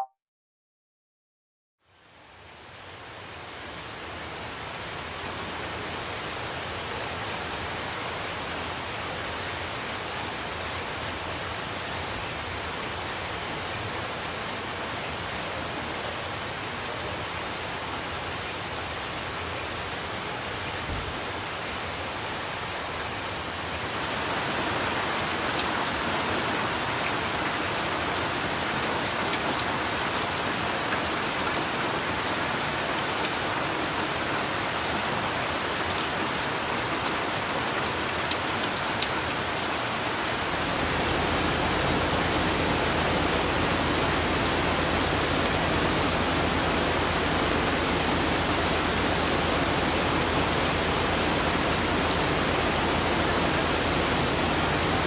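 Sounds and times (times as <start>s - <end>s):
heavy rain on foliage: 1.8s - 55.0s.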